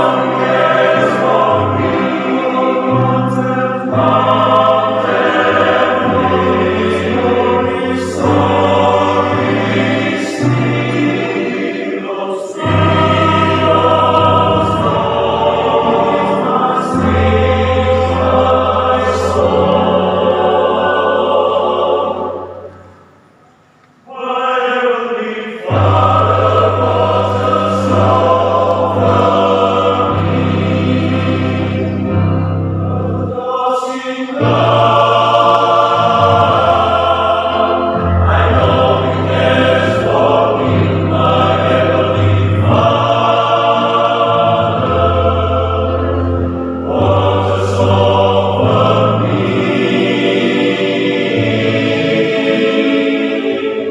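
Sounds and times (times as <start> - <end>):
men's choir singing: 0.0 - 23.4, 24.0 - 53.9.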